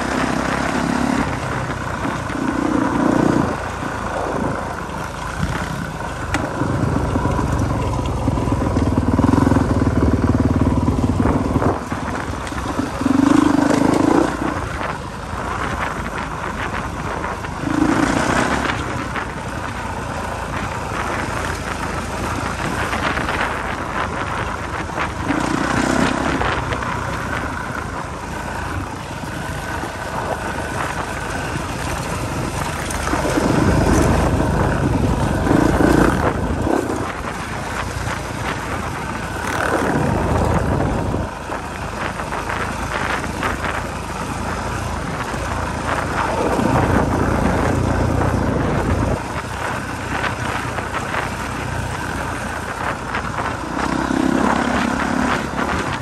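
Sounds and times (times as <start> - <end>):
dirt bike engine running: 0.0 - 56.0
wind buffeting microphone: 0.0 - 56.0.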